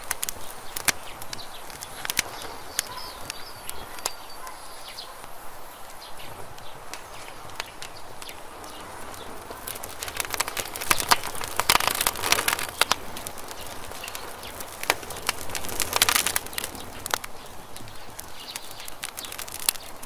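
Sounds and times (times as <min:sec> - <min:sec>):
campfire crackling and popping: 0:00.0 - 0:20.0
low steady hiss: 0:00.0 - 0:20.0.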